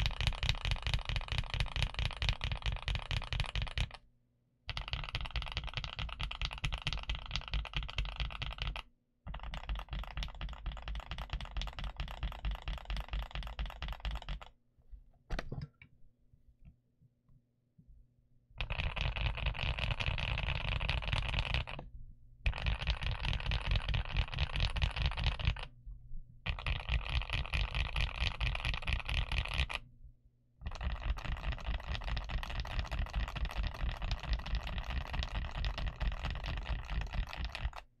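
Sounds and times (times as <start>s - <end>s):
fast typing on mechanical keyboard: 0.0s - 4.0s, 4.7s - 14.5s, 18.6s - 21.8s, 22.5s - 25.7s, 26.5s - 29.8s, 30.6s - 38.0s.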